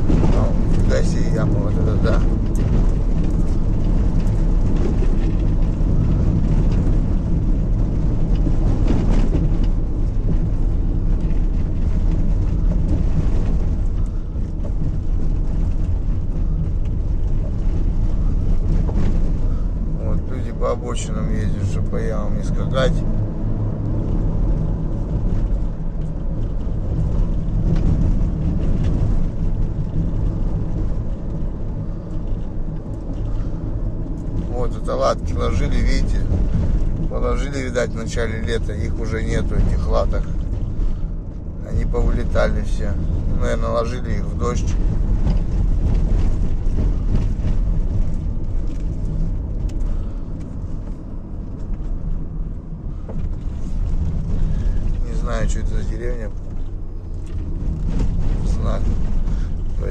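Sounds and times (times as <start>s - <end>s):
car engine and tyres rumbling: 0.0s - 59.9s
light knocks and rattles: 0.0s - 59.9s.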